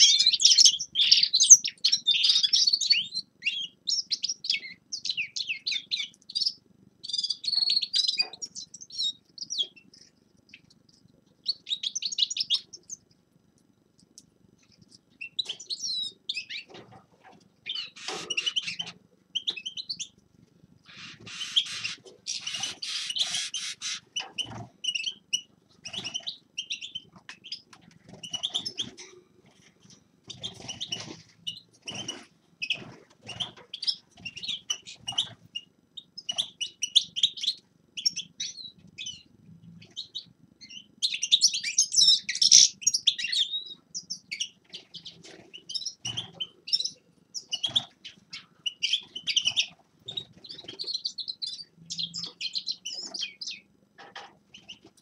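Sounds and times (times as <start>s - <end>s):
finches chirping and twittering: 0.0s - 13.1s, 14.8s - 17.0s, 17.6s - 20.2s, 20.8s - 54.9s.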